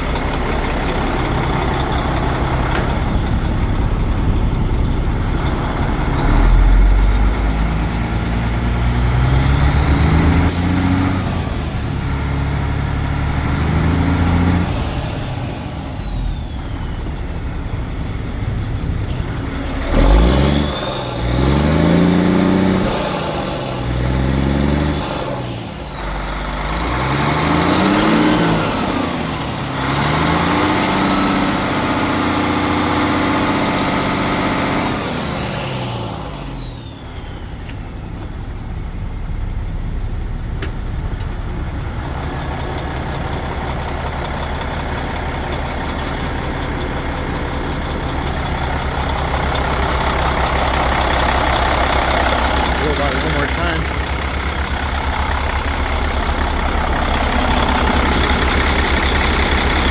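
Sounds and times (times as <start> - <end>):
diesel engine revving and idling: 0.0 - 59.9.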